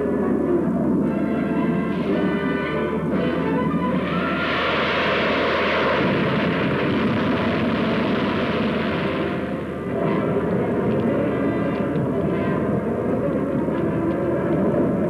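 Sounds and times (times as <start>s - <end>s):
aircraft engine passing overhead: 0.0s - 15.0s.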